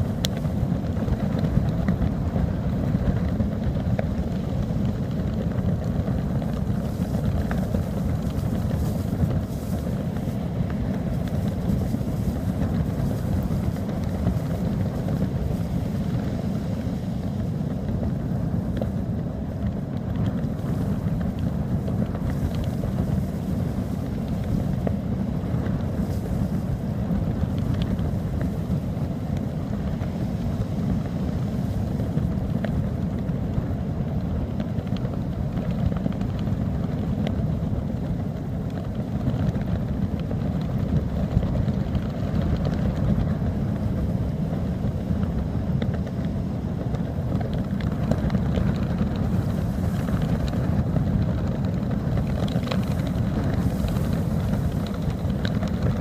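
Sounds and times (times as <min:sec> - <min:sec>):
trousers flapping in wind: 0:00.0 - 0:56.0
wind buffeting microphone: 0:00.0 - 0:56.0.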